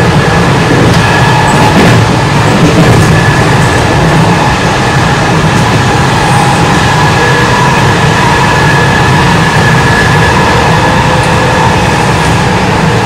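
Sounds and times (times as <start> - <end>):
high whine of running gear: 0.0 - 13.0
rumble of train wheels on rail: 0.0 - 13.0.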